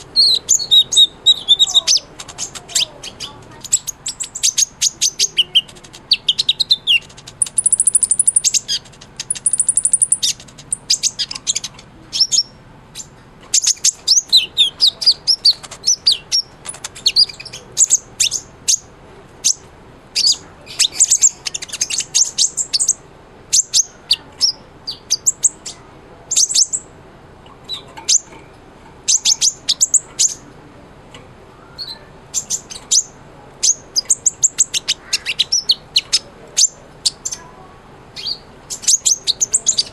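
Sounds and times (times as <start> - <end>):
bird chirping and twittering: 0.0 - 30.5, 31.6 - 39.9.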